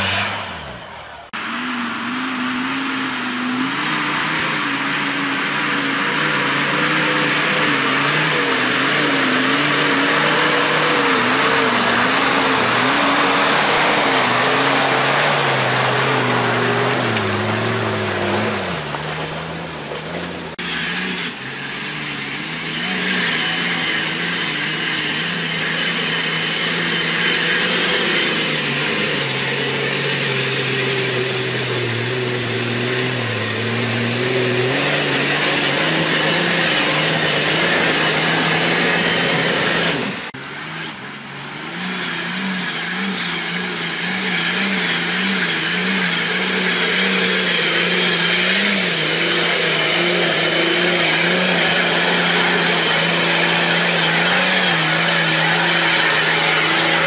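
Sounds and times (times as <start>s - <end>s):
off-road engine working under load: 0.0s - 57.0s.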